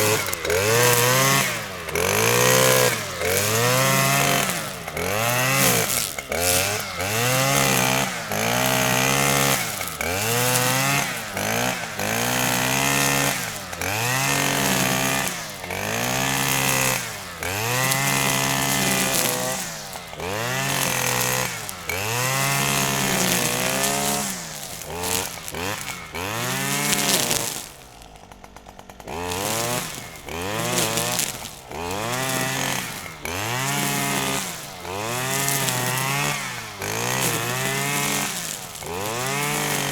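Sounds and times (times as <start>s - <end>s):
grass trimmer motor revving: 0.0s - 39.9s.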